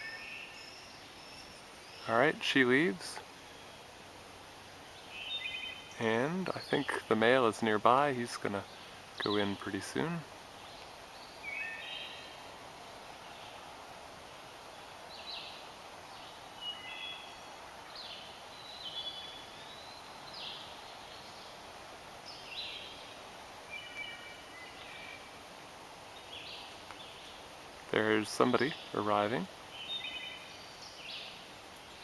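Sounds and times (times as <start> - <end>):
faint background hiss: 0.0 - 32.0
wild birds chirping: 0.0 - 32.0.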